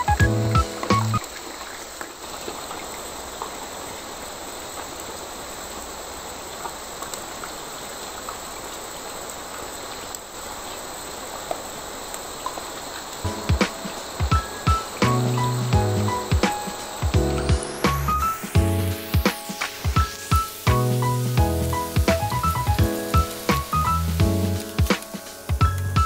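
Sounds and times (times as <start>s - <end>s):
rain falling on foliage: 0.0s - 26.0s.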